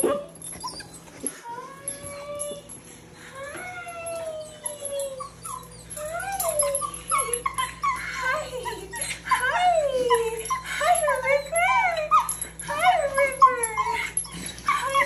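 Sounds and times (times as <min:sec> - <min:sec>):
puppy whining and crying: 0:00.0 - 0:15.0.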